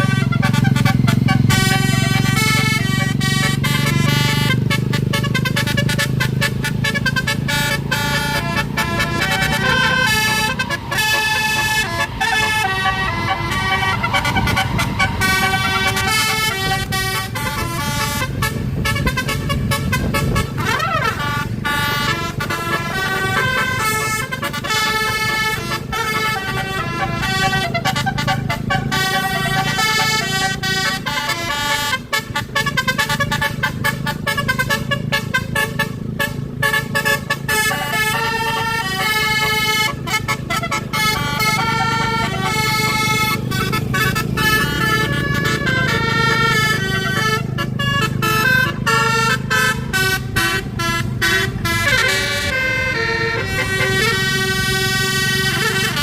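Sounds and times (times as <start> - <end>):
bus engine humming: 0.0 - 56.0
musical air horn melody: 0.0 - 56.0.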